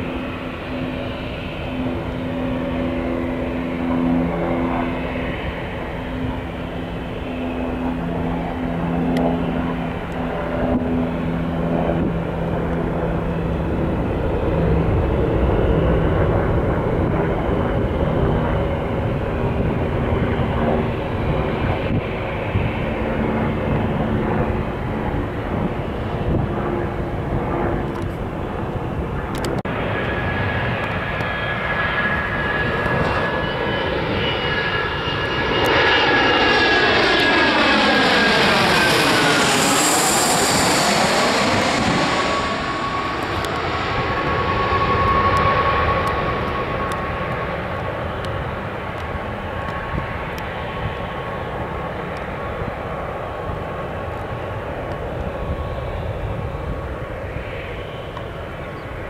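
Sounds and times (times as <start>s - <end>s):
business jet engine whine: 0.0s - 59.0s
jet airliner engines rumbling: 0.0s - 59.0s.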